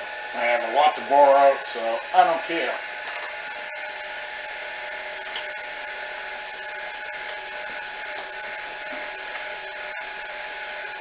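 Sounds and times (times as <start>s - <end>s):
boring head cutting metal: 0.0s - 11.0s
milling machine whirring: 0.0s - 11.0s.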